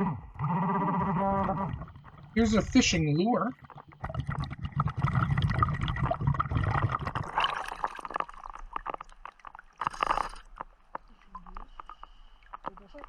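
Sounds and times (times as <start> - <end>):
exhaled bubbles gurgling: 0.0 - 10.6.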